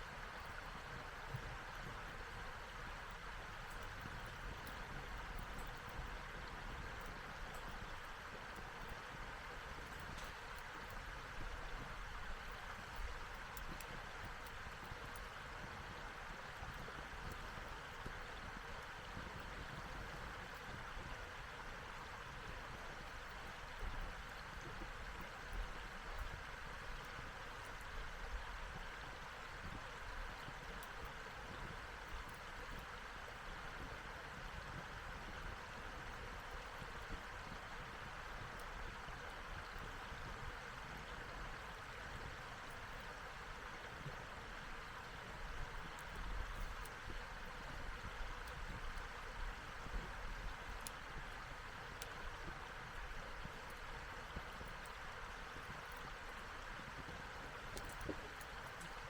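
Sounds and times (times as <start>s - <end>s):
low rumble of wind: 0.0s - 59.0s
wood fire hissing and crackling: 0.0s - 59.0s.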